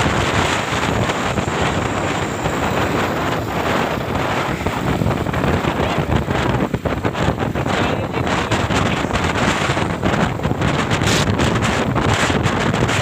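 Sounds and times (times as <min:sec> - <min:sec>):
loud rushing noise: 0:00.0 - 0:13.0
wind buffeting microphone: 0:00.0 - 0:13.0.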